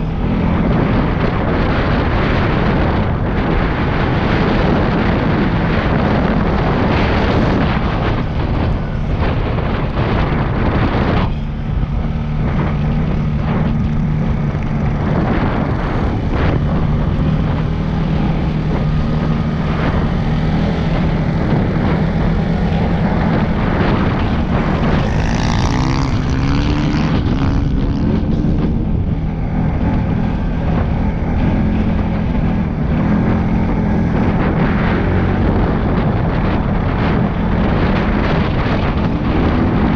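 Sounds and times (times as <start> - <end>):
atv engine running: 0.0 - 39.9
wind rushing over microphone: 0.0 - 39.9.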